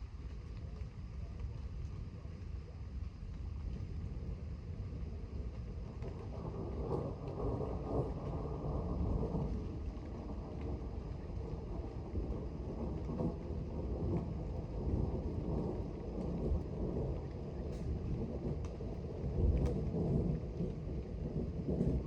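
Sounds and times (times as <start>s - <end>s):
wind noise on microphone: 0.0s - 22.0s
distant thunder rumbling: 3.9s - 22.0s.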